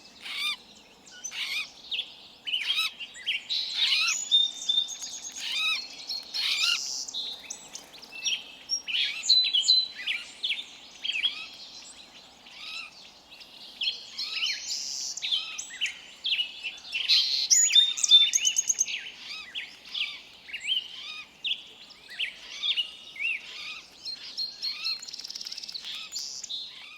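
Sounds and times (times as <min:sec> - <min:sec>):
forest birds chirping: 0:00.0 - 0:26.9.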